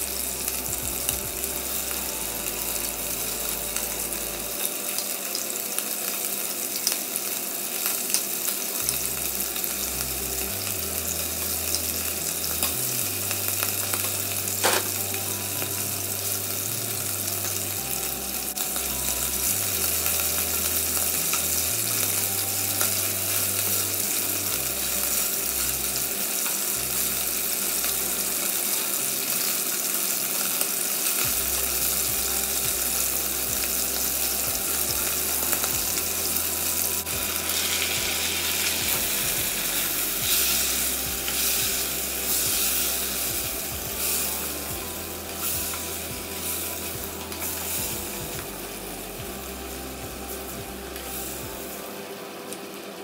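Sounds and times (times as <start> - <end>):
meat sizzling in hot oil: 0.0 - 53.0.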